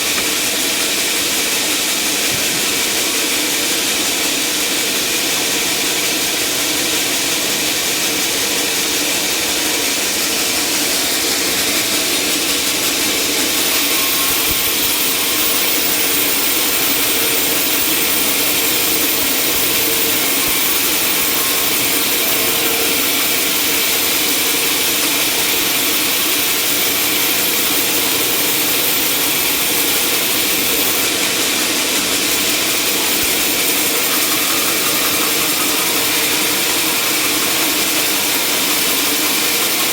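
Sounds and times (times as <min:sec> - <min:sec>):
saw cutting timber: 0:00.0 - 0:39.9
sawmill engine: 0:00.0 - 0:39.9.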